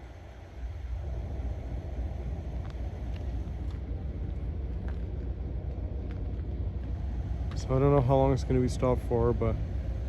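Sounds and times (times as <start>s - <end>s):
coal train rumbling: 0.0s - 10.0s.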